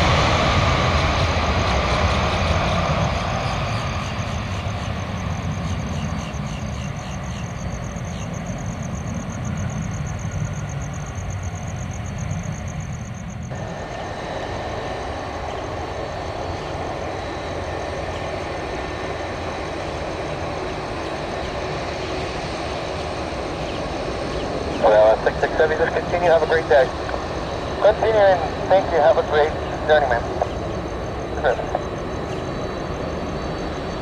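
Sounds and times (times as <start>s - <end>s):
jet engines rumbling: 0.0s - 34.0s
thin steady engine whine: 0.0s - 34.0s.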